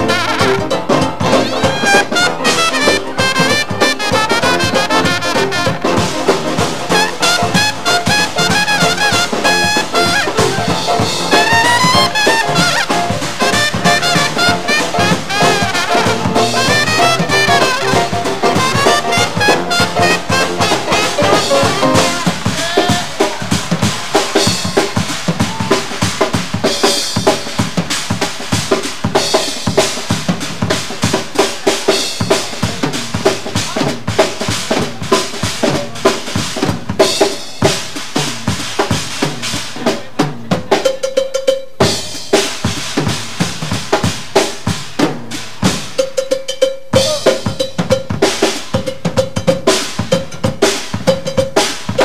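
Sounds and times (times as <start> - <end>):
drum kit solo: 0.0 - 52.0.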